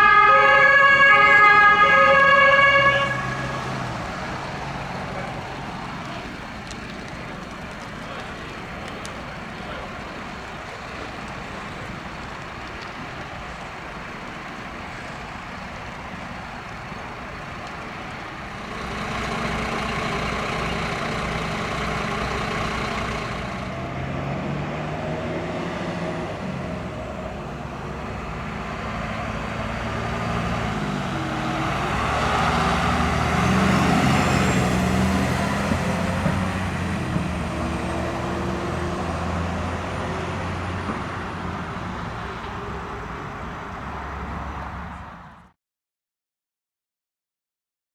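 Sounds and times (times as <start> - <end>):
fire engines driving by: 0.0 - 45.6.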